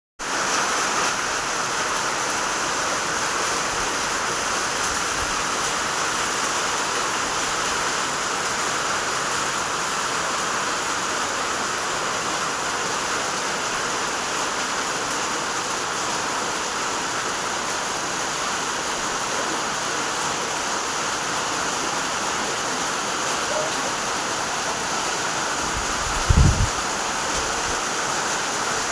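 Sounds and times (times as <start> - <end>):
steady rain: 0.2 - 28.9.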